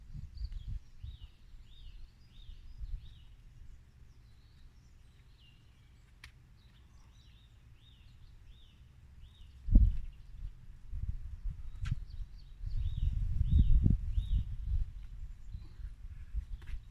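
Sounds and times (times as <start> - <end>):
small bird chirping: 0.1 - 10.6, 11.4 - 16.9.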